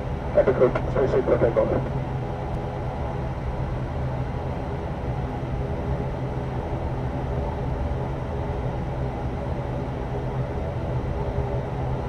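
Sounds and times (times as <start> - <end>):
turboprop engines droning in cabin: 0.0 - 12.0.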